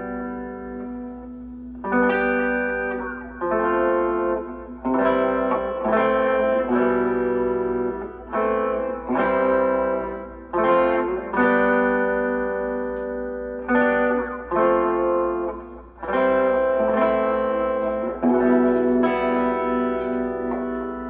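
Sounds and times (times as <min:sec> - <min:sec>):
clean electric guitar chords: 0:00.0 - 0:21.0.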